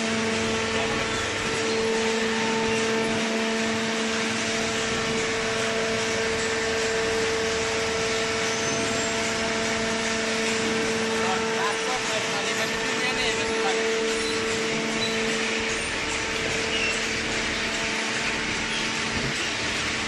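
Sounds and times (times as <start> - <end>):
hydraulic machine humming: 0.0 - 20.0.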